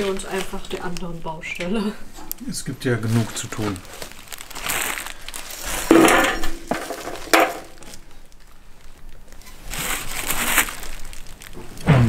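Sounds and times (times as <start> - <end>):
plastic film crinkling: 0.0 - 1.6, 2.2 - 11.9.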